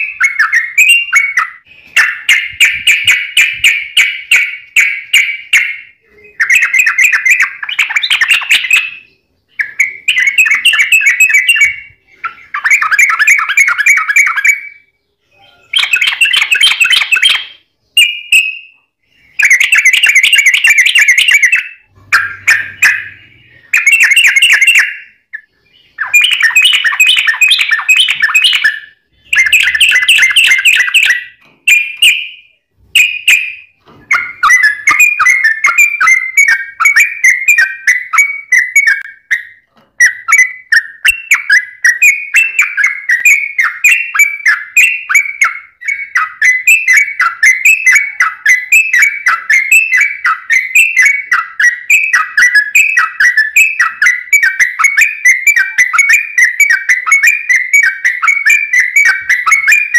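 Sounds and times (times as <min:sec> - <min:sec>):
bulbul singing bubbling song: 0:00.0 - 0:59.9.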